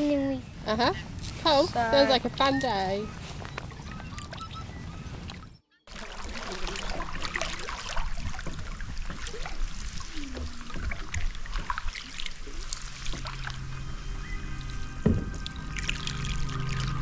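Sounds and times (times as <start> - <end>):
paddles splashing in water: 1.1 - 17.0.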